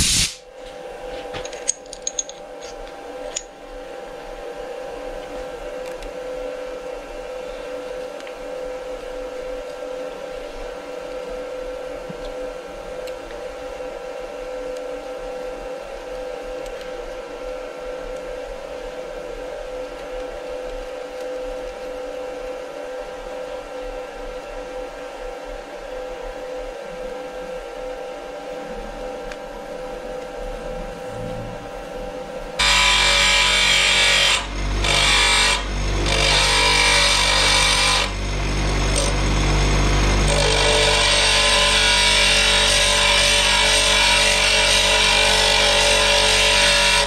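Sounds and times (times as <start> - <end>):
electric machine hum: 0.0 - 47.0.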